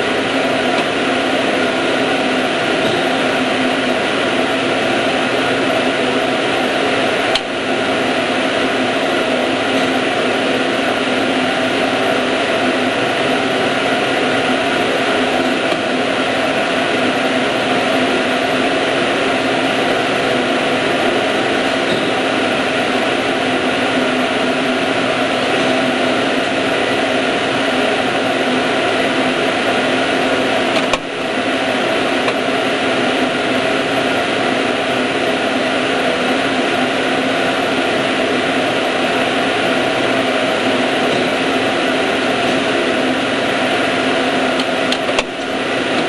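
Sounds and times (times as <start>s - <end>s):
ventilation fan whirring: 0.0s - 46.0s.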